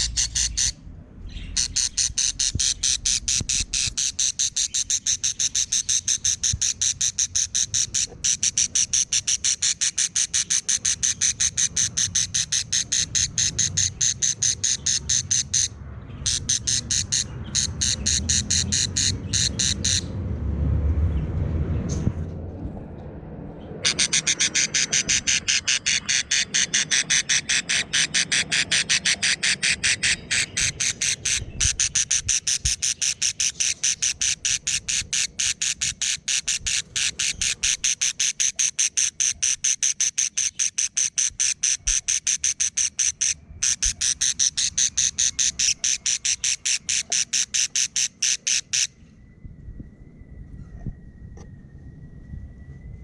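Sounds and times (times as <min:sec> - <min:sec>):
budgerigar chick calling: 0:00.0 - 0:20.2, 0:23.8 - 0:49.0.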